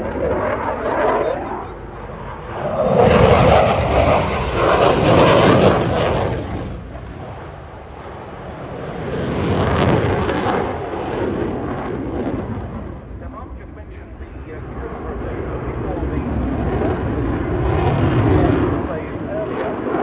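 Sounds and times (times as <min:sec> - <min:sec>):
jet engine roaring: 0:00.0 - 0:20.0.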